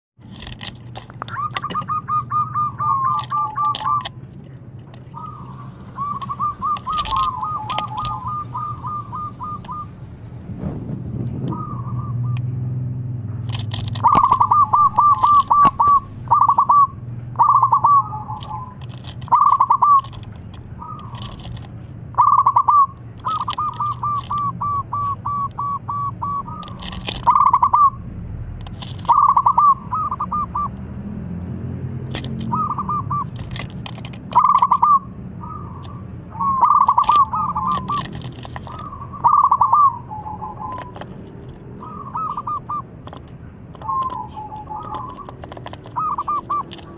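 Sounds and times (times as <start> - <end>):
dove cooing: 1.2 - 4.2, 5.1 - 10.4, 11.3 - 12.6, 13.8 - 21.6, 22.2 - 28.0, 29.0 - 30.8, 32.3 - 46.9.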